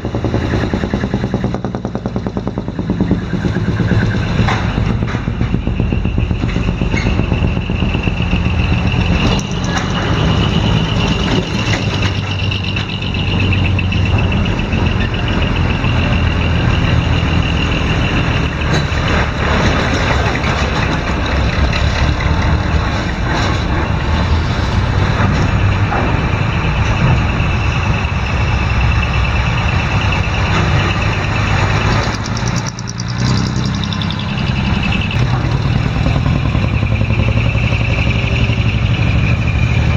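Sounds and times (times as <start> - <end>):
heavy diesel truck engines: 0.0 - 39.9.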